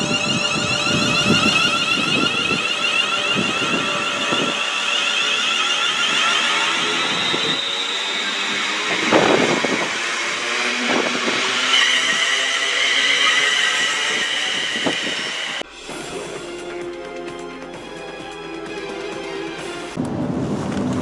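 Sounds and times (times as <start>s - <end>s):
electric train whine: 0.0s - 20.3s
rail noise: 0.0s - 21.0s.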